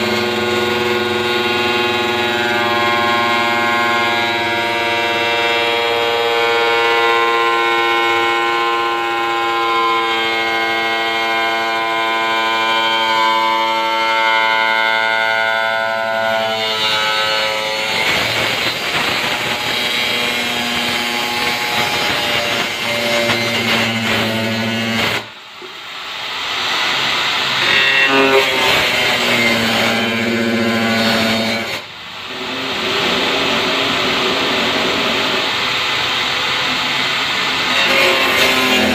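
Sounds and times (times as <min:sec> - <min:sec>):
angle grinder cutting plastic: 0:00.0 - 0:15.4, 0:16.0 - 0:25.8, 0:26.7 - 0:38.9.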